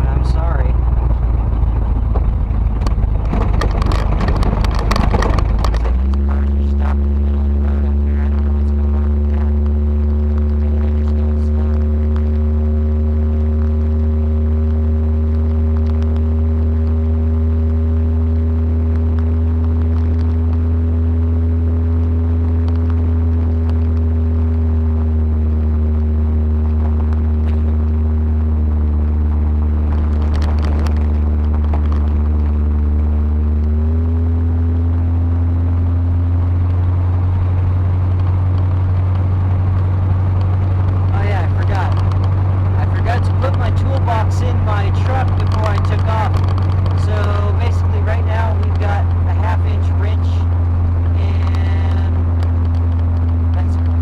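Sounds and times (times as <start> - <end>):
car engine droning while driving: 0.0 - 54.0.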